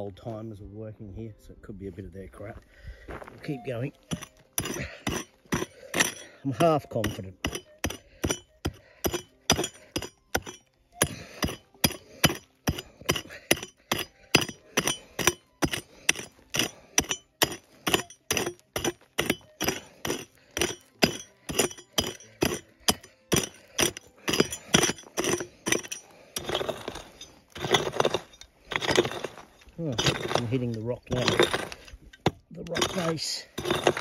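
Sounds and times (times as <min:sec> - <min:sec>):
scraping of dirt and stones: 0:00.0 - 0:34.0
pick striking stony ground: 0:03.1 - 0:34.0.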